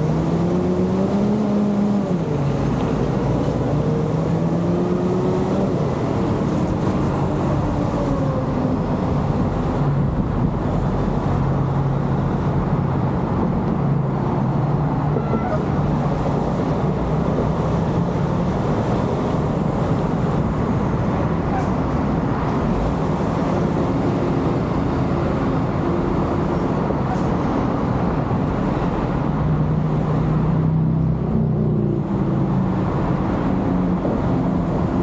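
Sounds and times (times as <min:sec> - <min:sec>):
car engine: 0:00.0 - 0:35.0
tyre and road noise: 0:00.0 - 0:35.0.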